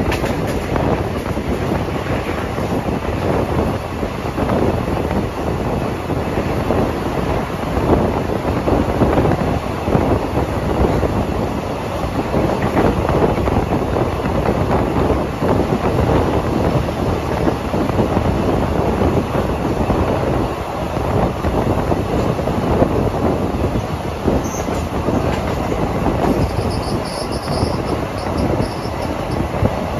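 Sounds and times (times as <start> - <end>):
rushing air: 0.0 - 29.9
train wheels rumbling on rails: 0.0 - 29.9.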